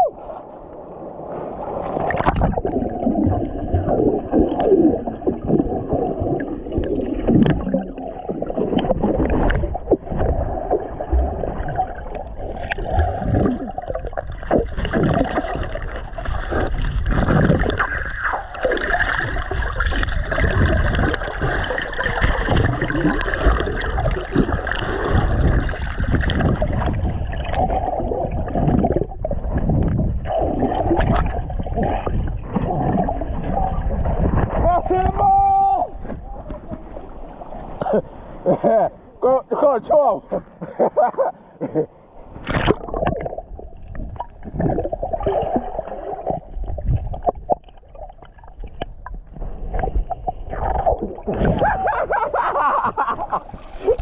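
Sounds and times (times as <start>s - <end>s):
water sloshing and splashing: 0.0s - 38.3s, 42.2s - 54.0s
water gurgles: 0.0s - 54.0s.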